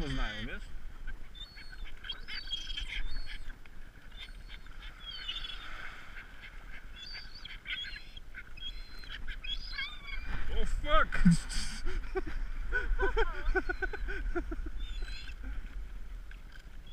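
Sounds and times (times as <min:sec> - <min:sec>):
wavering gull calls: 0:00.0 - 0:15.5
gulls squawking: 0:00.0 - 0:15.6.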